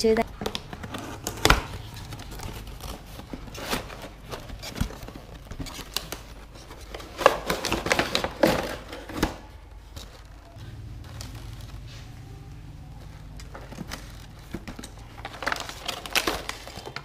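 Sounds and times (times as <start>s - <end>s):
plastic packaging rustling: 0.1s - 17.0s.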